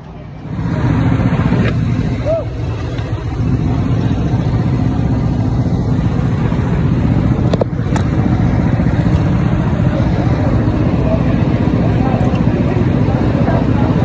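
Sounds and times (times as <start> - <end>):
go-kart engines running: 0.0 - 14.0.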